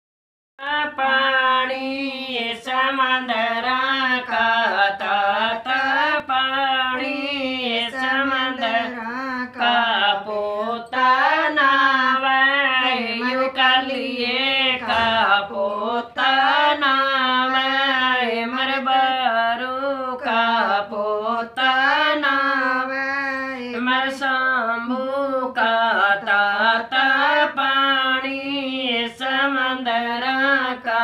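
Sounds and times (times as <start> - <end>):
women singing unaccompanied folk song: 0.6 - 31.0.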